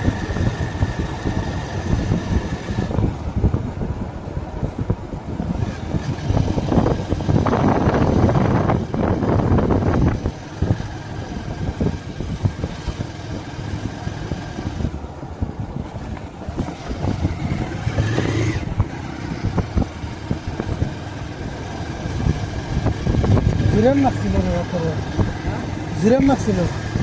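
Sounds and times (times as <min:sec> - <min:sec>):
motorcycle engine and road rumble: 0:00.0 - 0:27.0.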